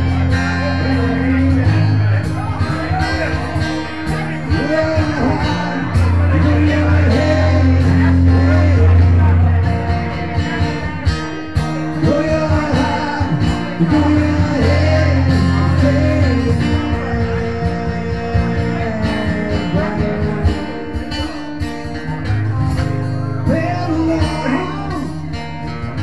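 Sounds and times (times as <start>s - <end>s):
person singing: 0.0s - 21.5s
acoustic guitar playing: 0.0s - 26.0s.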